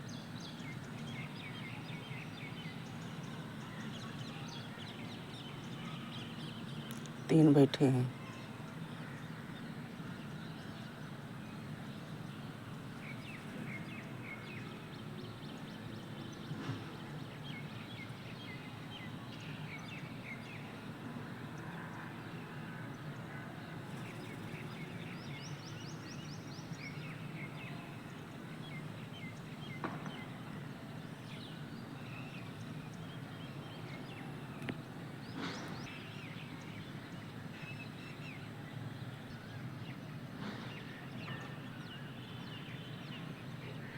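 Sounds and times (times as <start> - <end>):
outdoor background noise: 0.0 - 43.9.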